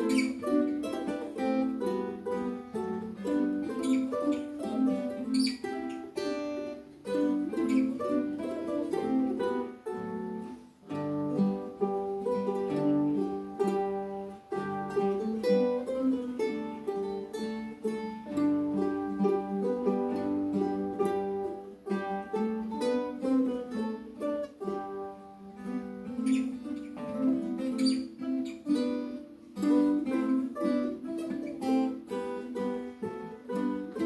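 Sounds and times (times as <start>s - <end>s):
ukuleles and acoustic guitars playing: 0.0s - 34.0s.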